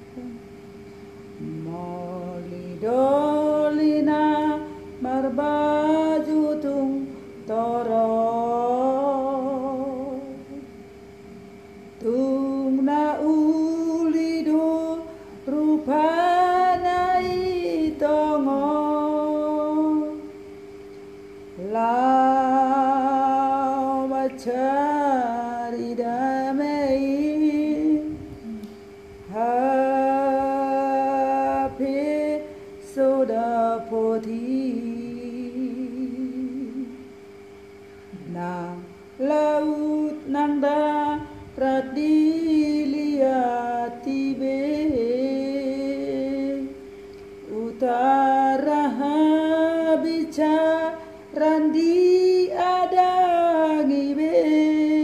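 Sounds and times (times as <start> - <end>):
steady hum: 0.0 - 55.0
woman singing unaccompanied: 1.2 - 37.5, 38.1 - 55.0.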